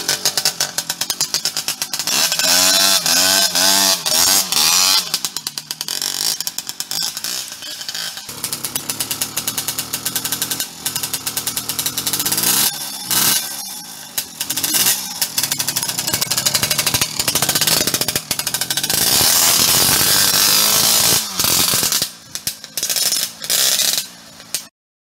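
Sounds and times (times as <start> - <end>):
moped engine revving: 0.0 - 24.7.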